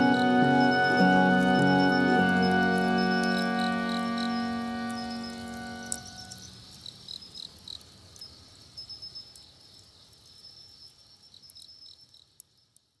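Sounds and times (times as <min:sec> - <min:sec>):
crickets chirping: 0:00.0 - 0:12.8
campfire crackling: 0:00.0 - 0:13.0.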